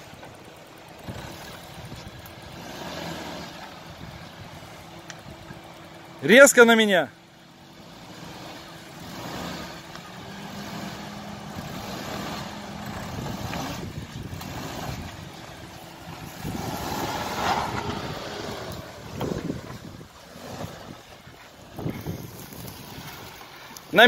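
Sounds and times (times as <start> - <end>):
off-road vehicle engine running: 0.0 - 24.0.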